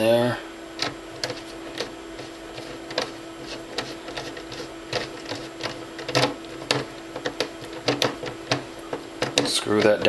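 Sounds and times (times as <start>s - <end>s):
steady low hum: 0.0s - 10.0s
small clicks and taps: 0.8s - 10.0s.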